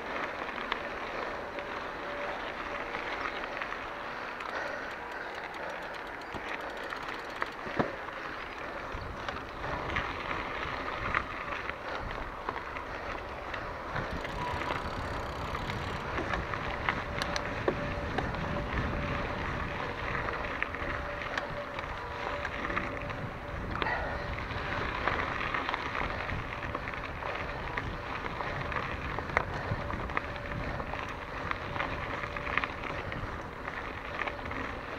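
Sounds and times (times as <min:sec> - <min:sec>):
bike rattling: 0:00.0 - 0:34.9
bike tyres rolling on dirt: 0:00.0 - 0:34.9
wind buffeting microphone: 0:04.5 - 0:34.9.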